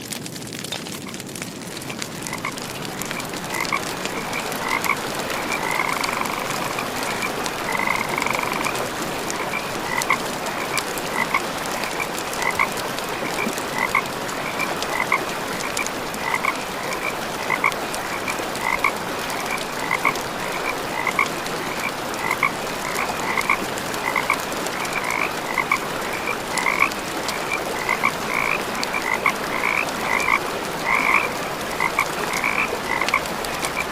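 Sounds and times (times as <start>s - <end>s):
campfire crackles: 0.0s - 33.9s
frogs croaking: 1.9s - 33.9s.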